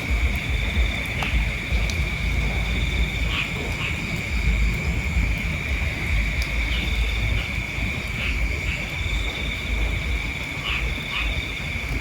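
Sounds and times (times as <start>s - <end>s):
low rumble: 0.0s - 10.3s
crickets droning: 0.0s - 12.0s.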